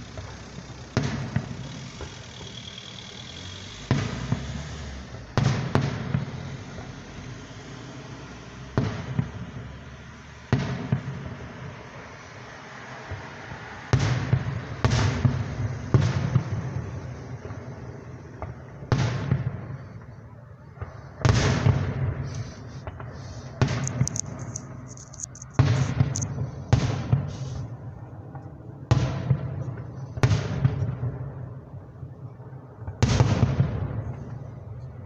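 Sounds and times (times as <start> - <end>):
fireworks crackling: 0.0 - 31.6
fireworks booming with echo: 0.0 - 35.0.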